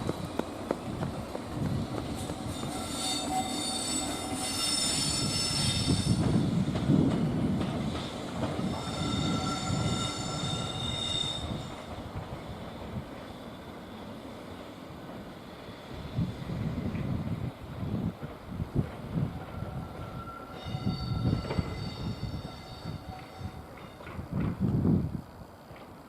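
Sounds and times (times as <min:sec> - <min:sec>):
wheels squealing on rails: 0:00.0 - 0:24.8
train rumbling on rails: 0:00.0 - 0:26.0.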